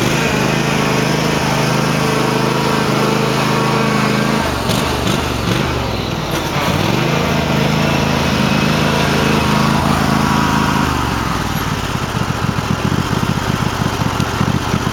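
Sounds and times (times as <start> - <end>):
garden tractor engine running: 0.0 - 14.9.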